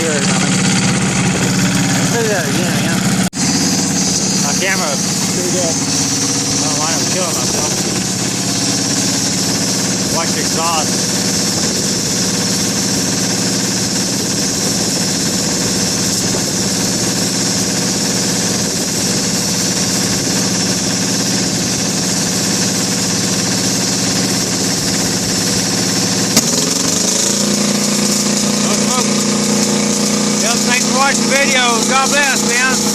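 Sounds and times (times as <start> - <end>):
diesel engine running steadily: 0.0 - 32.9.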